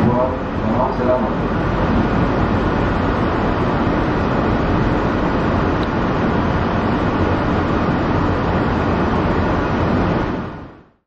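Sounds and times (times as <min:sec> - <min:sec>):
train cabin running noise: 0:00.0 - 0:10.8.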